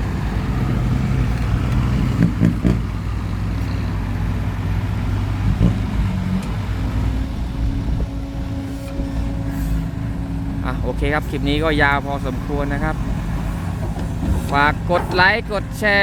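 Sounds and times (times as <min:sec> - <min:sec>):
dump truck engine running: 0:00.0 - 0:16.0.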